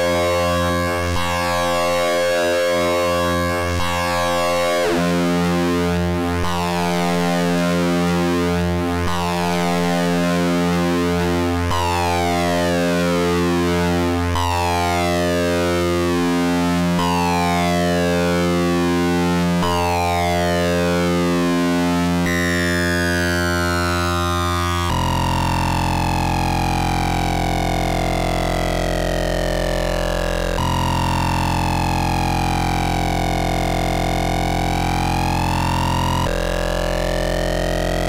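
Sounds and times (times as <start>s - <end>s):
buzzing synthesizer drone: 0.0s - 38.0s.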